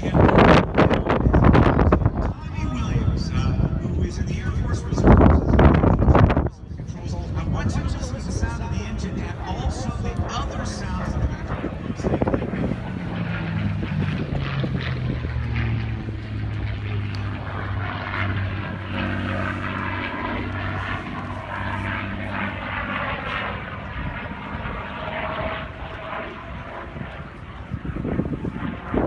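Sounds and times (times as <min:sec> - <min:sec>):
propeller airplane engine droning: 0:00.0 - 0:29.0.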